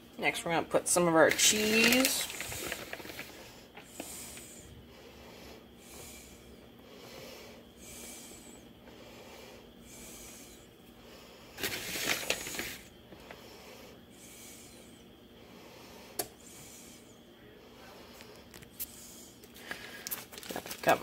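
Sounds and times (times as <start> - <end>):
close breathing: 1.9 - 20.3.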